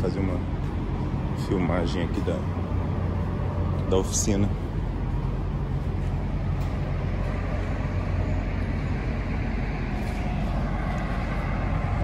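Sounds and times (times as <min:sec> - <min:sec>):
truck engines idling: 0:00.0 - 0:12.0.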